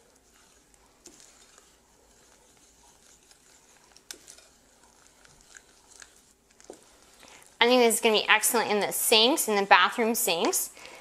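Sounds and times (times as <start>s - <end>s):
wooden spoon stirring paste: 0.0s - 10.6s.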